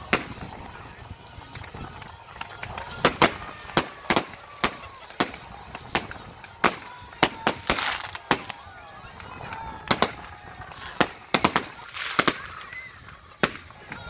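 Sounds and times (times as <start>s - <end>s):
fireworks bursting with sharp bangs: 0.0s - 14.0s.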